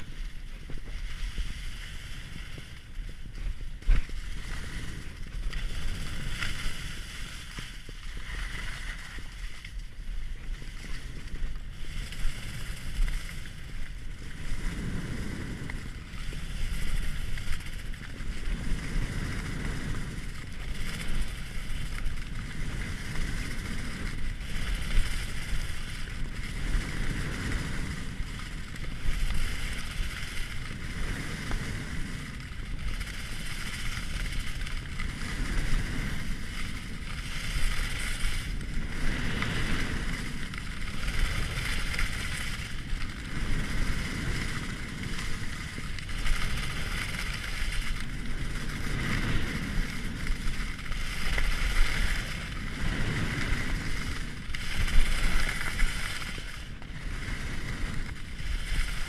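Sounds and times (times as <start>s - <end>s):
skis hissing over snow: 0.0s - 59.0s
wind on microphone: 0.0s - 59.0s.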